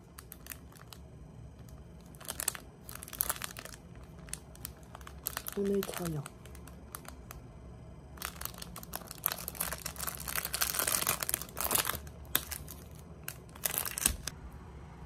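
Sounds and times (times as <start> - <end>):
plastic wrapper crinkling and tearing: 0.0 - 7.4, 8.1 - 14.3.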